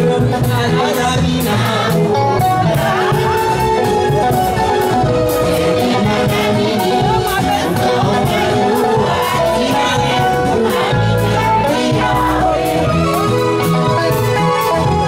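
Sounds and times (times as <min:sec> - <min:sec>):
bass line: 0:00.0 - 0:15.0
person singing into microphone: 0:00.0 - 0:15.0.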